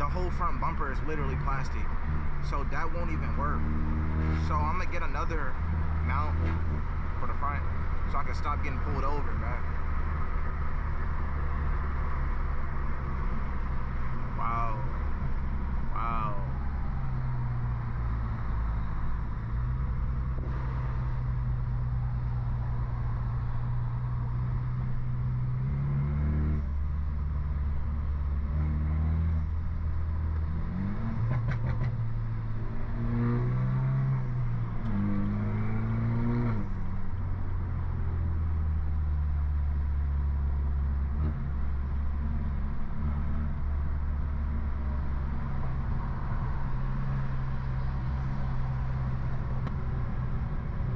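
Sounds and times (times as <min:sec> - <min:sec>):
car exhaust droning and revving: 0:00.0 - 0:50.9.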